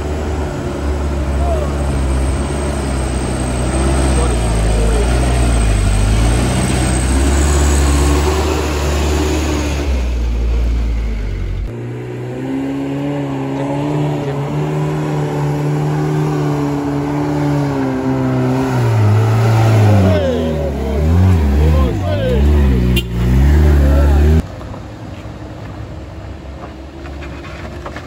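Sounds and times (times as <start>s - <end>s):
diesel truck engine labouring: 0.0s - 28.0s.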